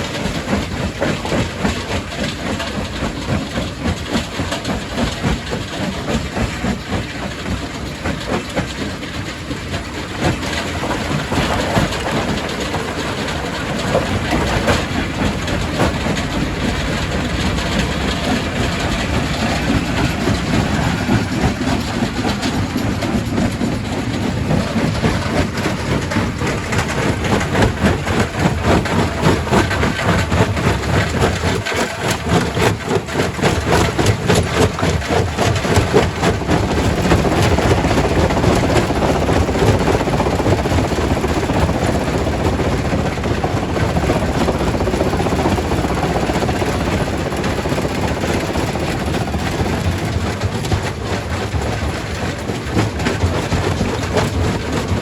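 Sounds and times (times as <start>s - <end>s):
rock crusher rumbling: 0.0s - 55.0s.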